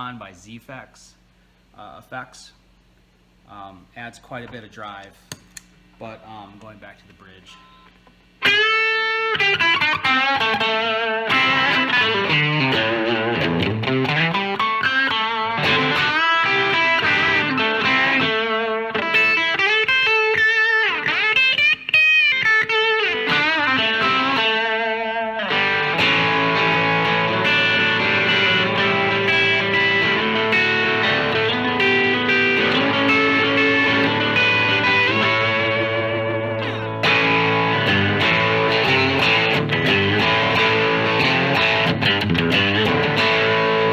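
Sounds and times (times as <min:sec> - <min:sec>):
distorted electric guitar: 0:08.4 - 0:43.9.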